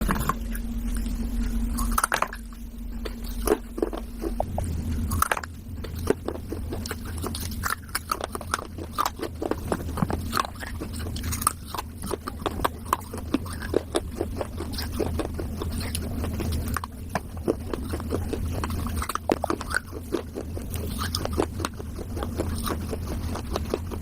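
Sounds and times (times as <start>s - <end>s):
person crunching clay lamp: 3.0s - 24.0s.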